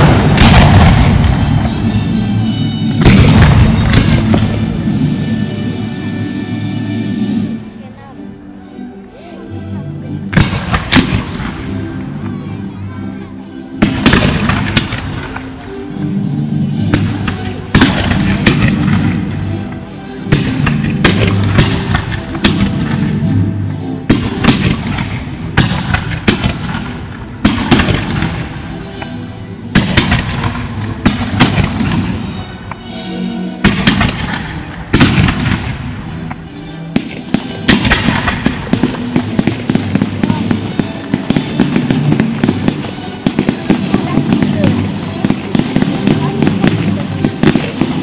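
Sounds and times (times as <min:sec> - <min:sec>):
fireworks bangs: 0:00.0 - 0:06.2, 0:10.2 - 0:12.9, 0:13.8 - 0:15.6, 0:16.7 - 0:33.0, 0:33.6 - 0:48.0
music: 0:00.0 - 0:48.0.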